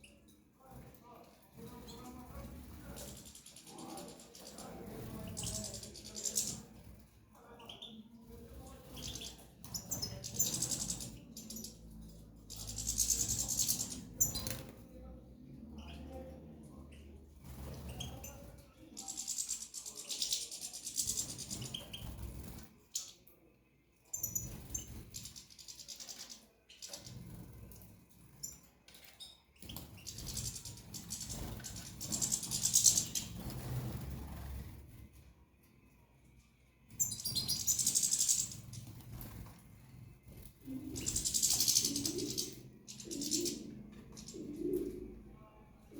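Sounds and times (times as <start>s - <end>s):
small birds chirping: 0.0s - 45.9s
wings fluttering and rustling: 0.2s - 7.4s, 8.2s - 15.0s, 17.2s - 23.2s, 24.1s - 35.6s, 36.9s - 45.3s.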